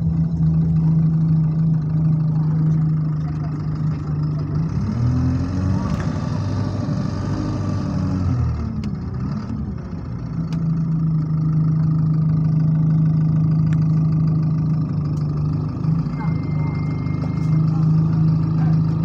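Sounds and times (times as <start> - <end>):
bus engine moaning drone: 0.0 - 19.0.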